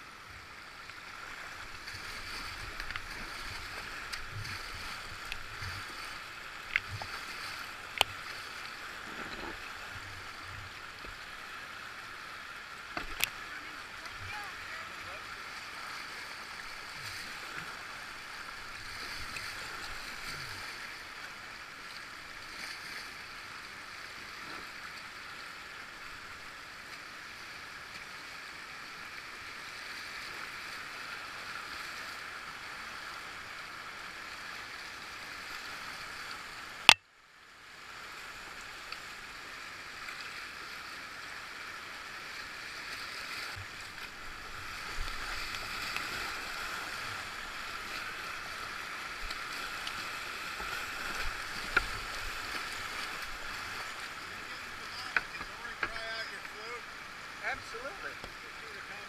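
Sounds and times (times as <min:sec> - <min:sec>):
river current rushing: 0:00.0 - 0:59.0.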